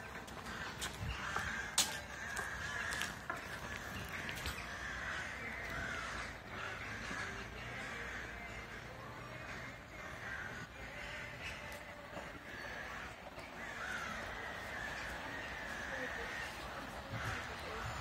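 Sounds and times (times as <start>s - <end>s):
crow cawing: 0.2s - 18.0s.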